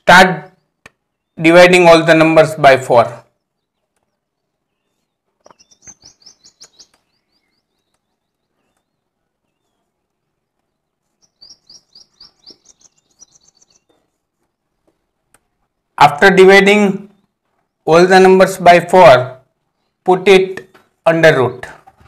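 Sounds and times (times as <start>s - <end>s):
songbird singing: 0.0s - 21.9s.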